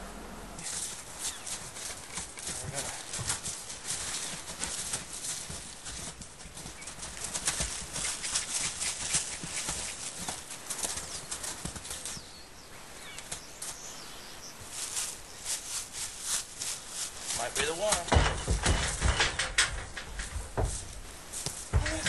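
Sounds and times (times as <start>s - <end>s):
footsteps crunching in snow: 0.6s - 19.0s, 20.0s - 22.0s
hooves crunching in snow: 0.6s - 22.0s.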